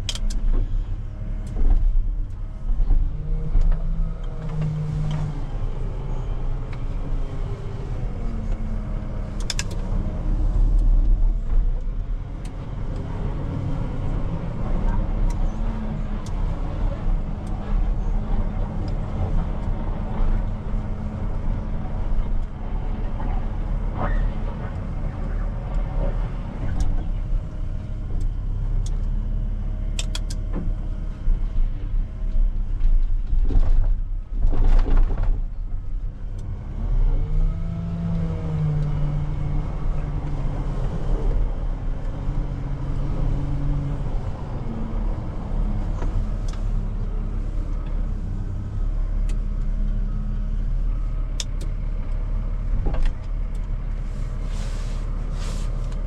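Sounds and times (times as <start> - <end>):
heavy machine engine rumbling: 0.0 - 56.0.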